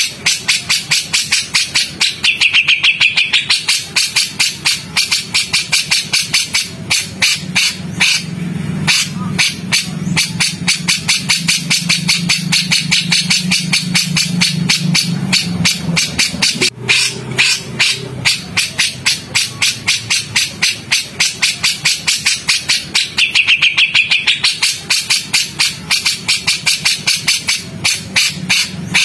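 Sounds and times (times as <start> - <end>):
songbird chattering call: 0.0 - 29.0.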